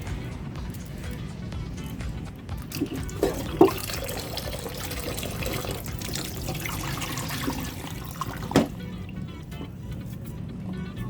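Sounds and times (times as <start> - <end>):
water running from a tap: 0.1 - 9.7.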